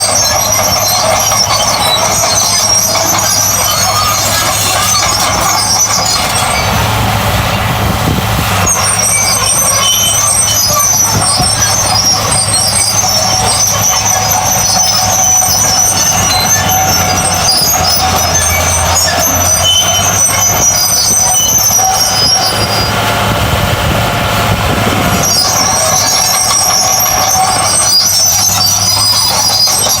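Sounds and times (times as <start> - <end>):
diesel engine hum: 0.0 - 30.0
high metallic squeal: 0.0 - 30.0.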